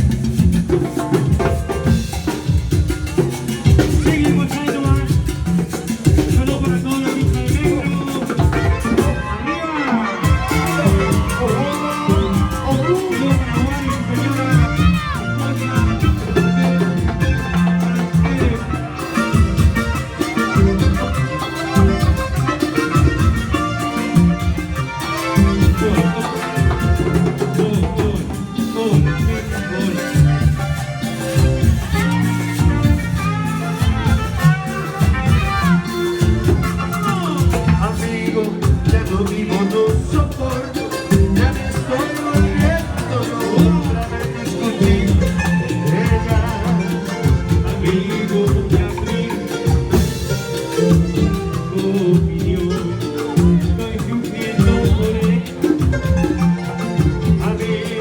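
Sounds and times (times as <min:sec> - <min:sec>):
band playing latin dance music: 0:00.0 - 0:58.0
person singing: 0:03.6 - 0:32.3, 0:33.8 - 0:58.0.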